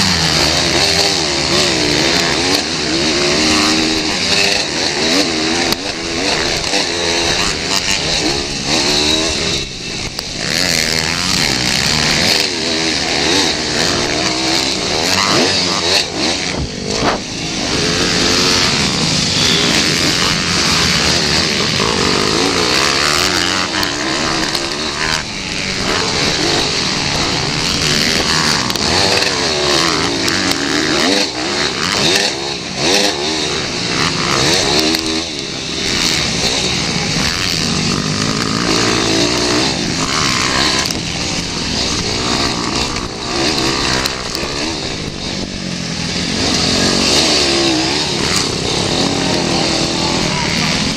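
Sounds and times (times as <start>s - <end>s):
pit bike engines revving: 0.0s - 50.9s.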